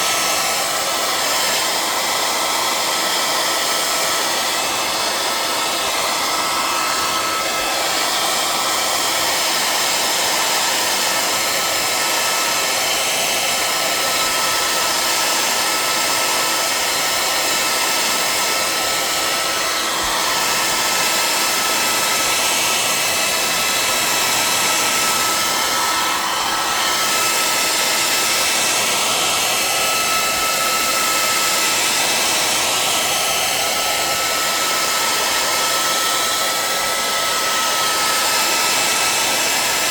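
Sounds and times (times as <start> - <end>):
hair dryer blowing air: 0.0 - 39.9
hair dryer motor whine: 0.0 - 39.9.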